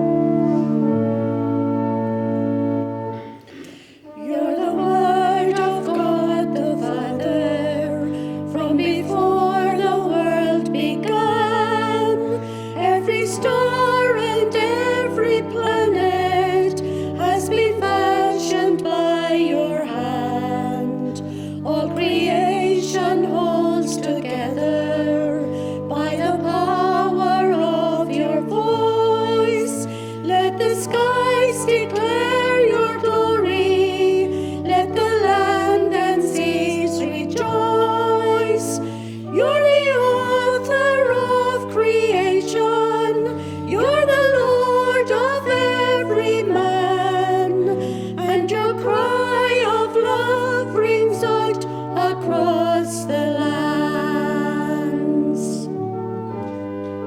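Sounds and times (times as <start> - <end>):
hymn sung with vibrato: 3.5 - 55.8.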